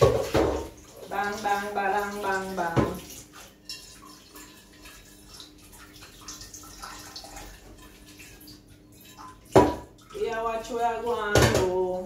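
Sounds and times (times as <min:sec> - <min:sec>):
water trickling: 0:00.0 - 0:11.3.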